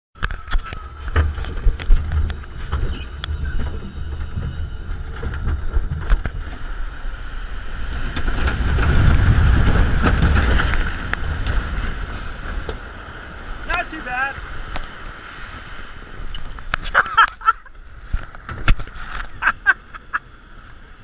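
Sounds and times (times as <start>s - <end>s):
low rumble: 0.2s - 19.5s
wind on microphone: 0.2s - 19.7s
rushing water: 0.2s - 21.0s.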